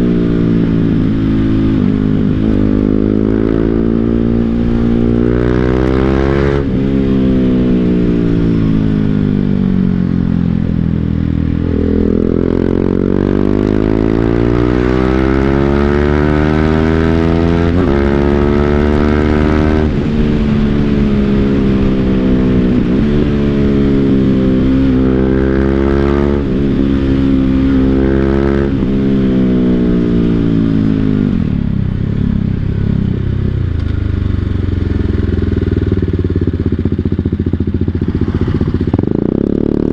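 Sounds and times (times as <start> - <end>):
motorcycle engine revving with gear shifts: 0.0 - 39.9.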